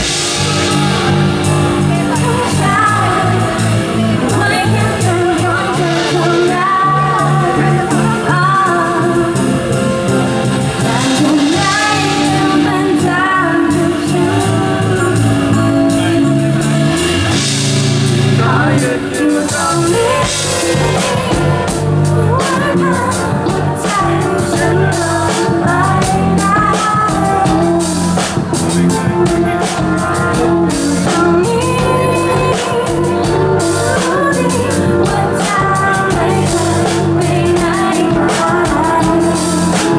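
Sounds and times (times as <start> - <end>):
drums: 0.0 - 39.9
electric bass: 0.0 - 39.9
woman singing: 0.0 - 39.9.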